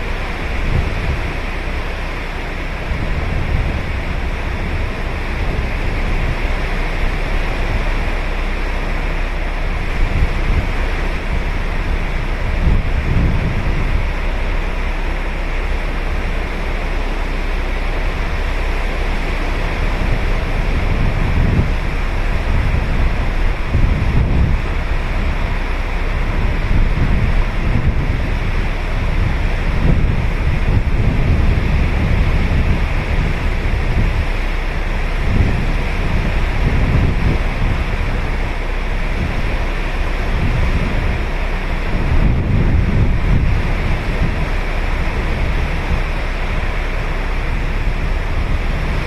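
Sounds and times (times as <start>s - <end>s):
ocean waves breaking on beach: 0.0s - 49.0s
wind buffeting microphone: 0.0s - 49.0s.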